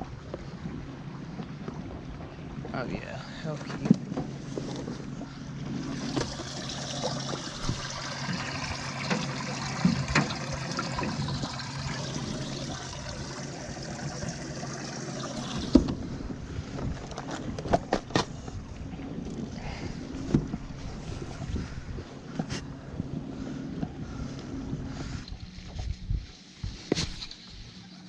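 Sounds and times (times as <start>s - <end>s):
low hum: 0.0s - 28.0s
water and wind noise: 0.0s - 28.0s.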